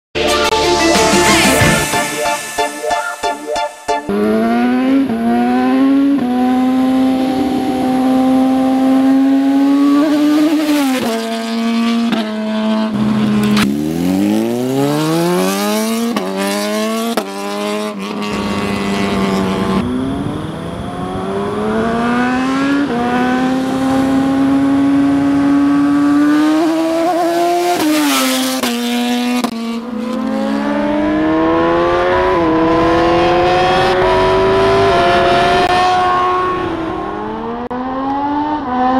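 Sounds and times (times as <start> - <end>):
motorbike engine revving: 4.1 - 38.9.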